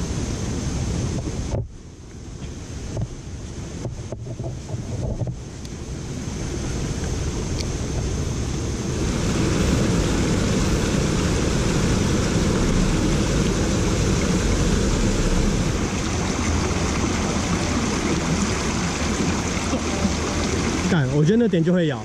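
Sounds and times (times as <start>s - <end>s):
stream rushing over rocks: 2.5s - 22.0s.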